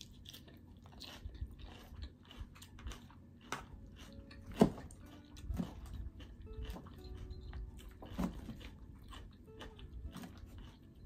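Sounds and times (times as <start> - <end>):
chewing and crunching salad: 0.0 - 11.0.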